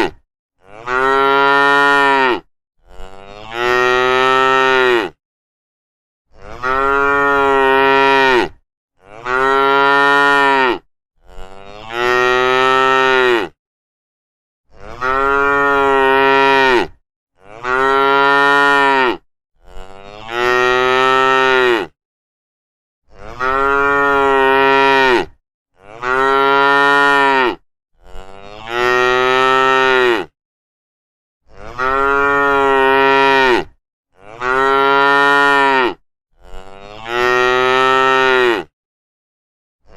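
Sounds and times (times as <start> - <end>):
cattle mooing: 0.6 - 5.2, 6.4 - 13.6, 14.8 - 21.9, 23.2 - 30.3, 31.5 - 38.7.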